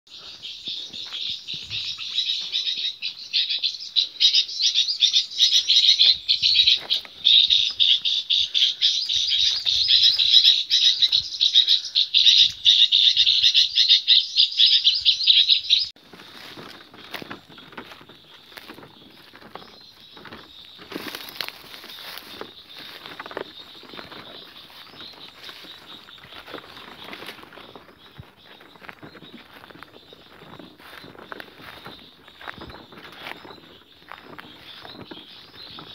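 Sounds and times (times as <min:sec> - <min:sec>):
flock of birds chirping: 0:00.1 - 0:35.9.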